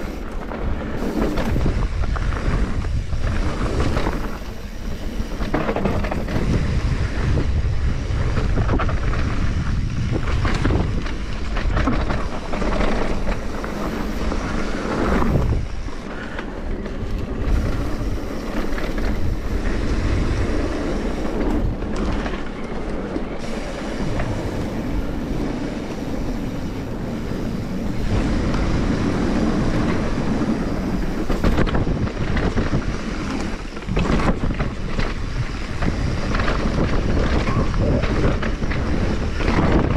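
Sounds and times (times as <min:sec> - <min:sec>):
bike chain and frame rattling: 0:00.0 - 0:39.9
tyres rumbling over dirt and rock: 0:00.0 - 0:39.9
wind buffeting microphone: 0:00.0 - 0:39.9.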